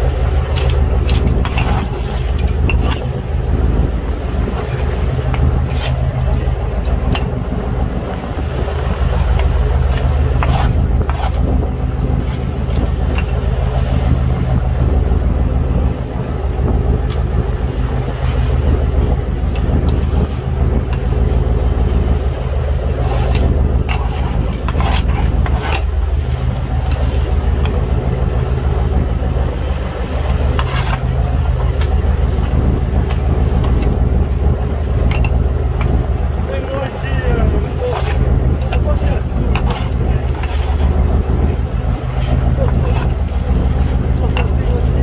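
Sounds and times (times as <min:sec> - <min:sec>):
boat engine humming: 0:00.0 - 0:45.0.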